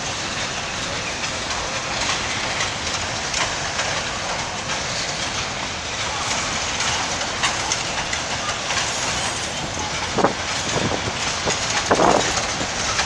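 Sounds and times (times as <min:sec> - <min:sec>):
wheels clicking over rail joints: 0:00.0 - 0:13.0
wheels rolling on track: 0:00.0 - 0:13.0.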